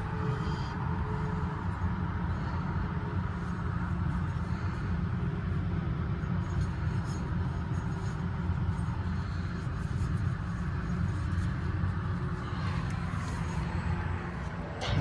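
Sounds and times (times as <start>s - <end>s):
faint hum: 0.0s - 8.1s, 8.7s - 15.0s
rooftop hvac blower rumbling: 0.0s - 15.0s.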